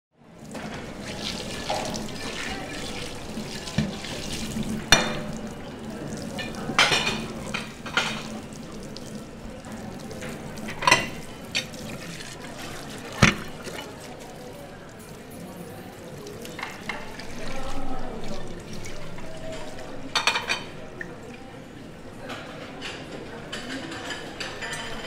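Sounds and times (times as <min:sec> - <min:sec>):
tap water running into sink: 0:00.3 - 0:21.5
crockery clinking against sink: 0:00.5 - 0:09.2, 0:09.9 - 0:14.0, 0:15.0 - 0:21.5, 0:22.2 - 0:25.0.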